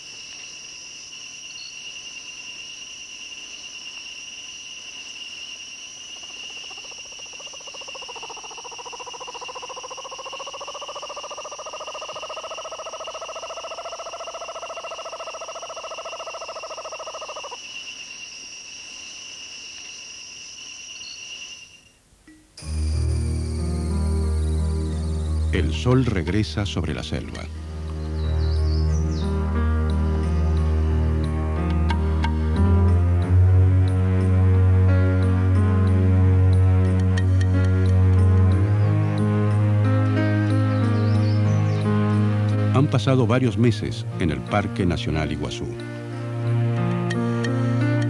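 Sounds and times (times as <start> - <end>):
insects chorus: 0.0 - 48.0.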